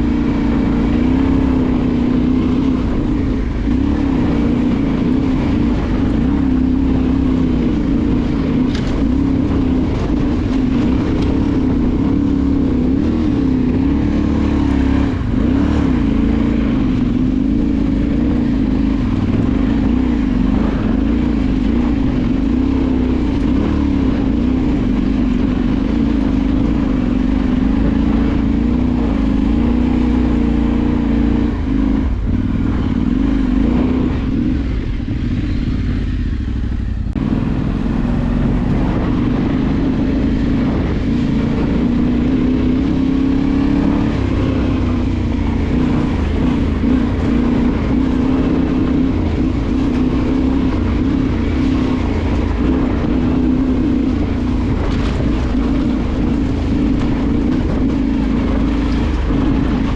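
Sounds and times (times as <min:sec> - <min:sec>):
low rumble: 0:00.0 - 0:59.9
motorcycle engine revving: 0:00.0 - 0:59.9.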